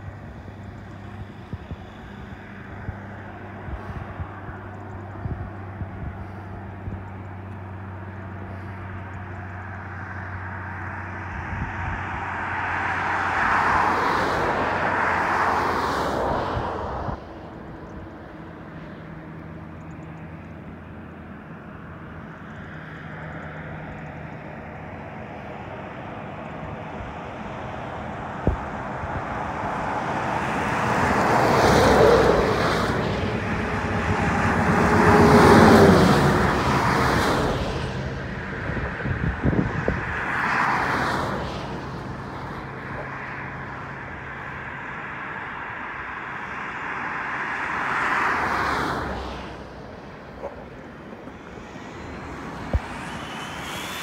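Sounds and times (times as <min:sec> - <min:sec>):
low steady engine hum: 0:00.0 - 0:15.3, 0:16.0 - 0:48.0, 0:48.9 - 0:54.0
cars and lorries passing: 0:00.0 - 0:54.0.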